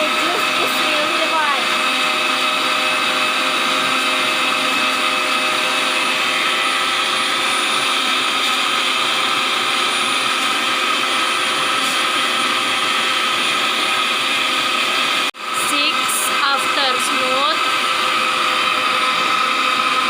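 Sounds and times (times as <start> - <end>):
electric blender running: 0.0 - 20.0.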